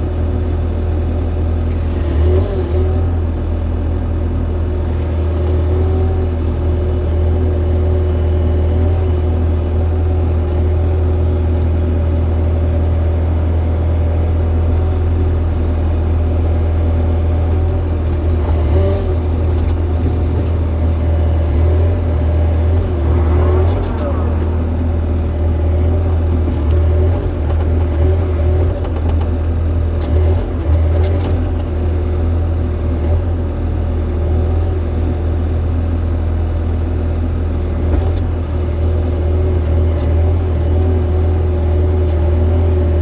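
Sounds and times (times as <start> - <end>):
excavator diesel engine droning: 0.0 - 43.0.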